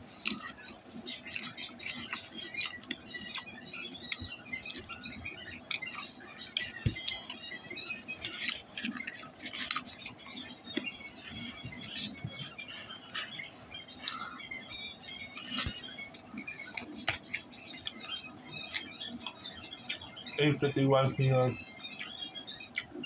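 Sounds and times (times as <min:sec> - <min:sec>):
chewing and lip-smacking: 0:00.0 - 0:20.3, 0:21.7 - 0:23.0.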